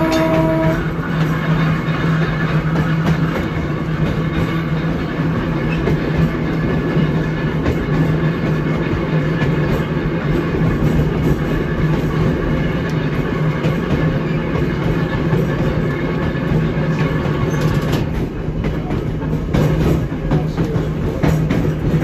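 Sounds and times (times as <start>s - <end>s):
trolley car hum: 0.0s - 22.0s
wheels rumbling on rail: 0.0s - 22.0s.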